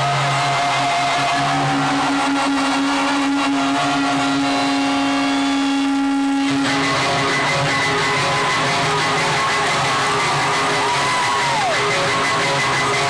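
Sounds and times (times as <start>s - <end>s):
stage and crowd noise: 0.0s - 13.0s
held electric guitar note: 0.1s - 10.8s.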